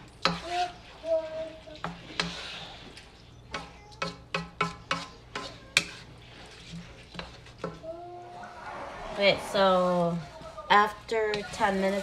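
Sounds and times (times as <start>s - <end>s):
spatula scraping a wok: 0.0s - 12.0s.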